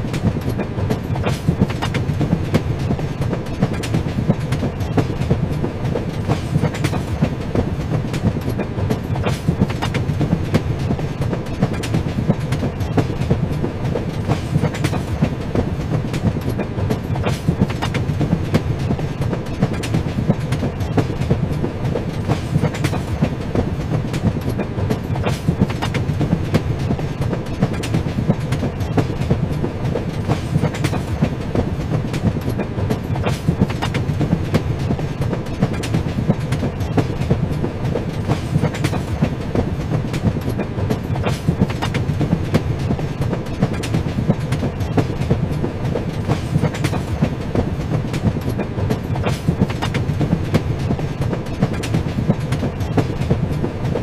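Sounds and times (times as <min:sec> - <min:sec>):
train wheels rumbling: 0:00.0 - 0:54.0
wheels clacking over rail joints: 0:00.0 - 0:54.0.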